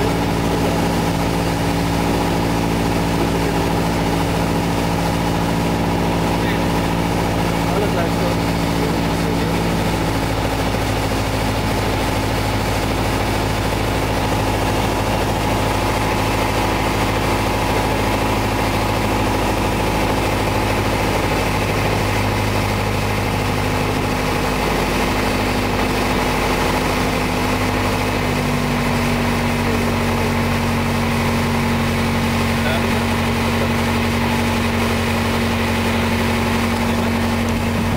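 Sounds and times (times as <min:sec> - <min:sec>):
aircraft engine and propeller drone: 0:00.0 - 0:37.9.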